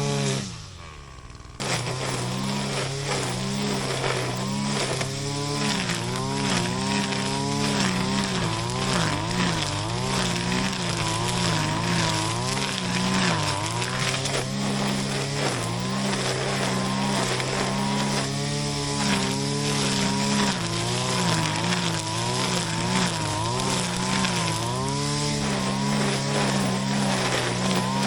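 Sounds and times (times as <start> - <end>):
brush cutter engine running: 0.0 - 28.0.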